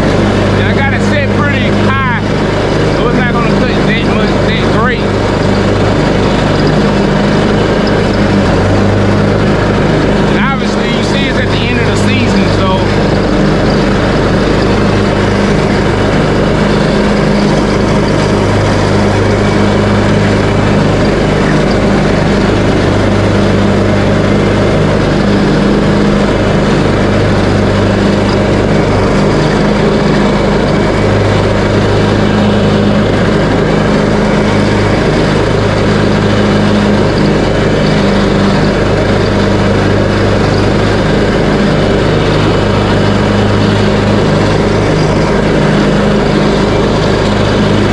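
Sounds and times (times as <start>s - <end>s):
riding mower engine running: 0.0s - 47.9s.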